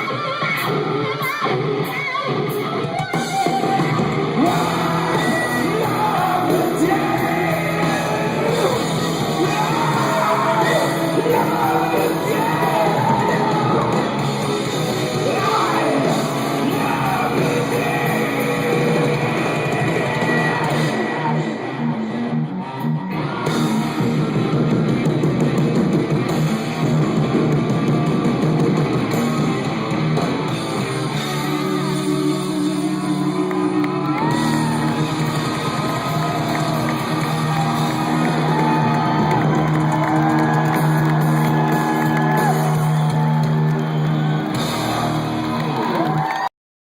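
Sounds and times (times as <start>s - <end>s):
live rock band playing: 0.0s - 46.3s.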